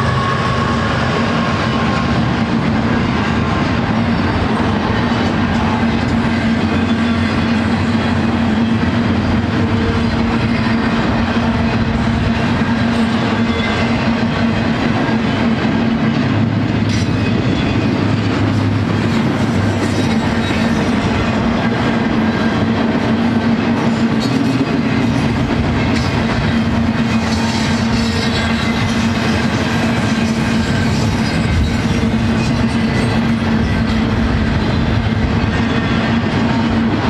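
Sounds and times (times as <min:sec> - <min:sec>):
steel wheels on rail: 0:00.0 - 0:37.0.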